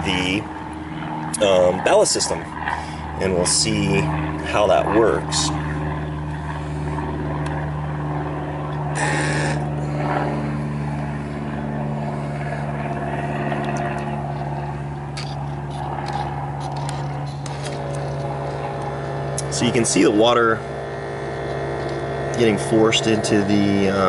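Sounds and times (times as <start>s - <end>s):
electric pump humming: 0.0s - 24.0s.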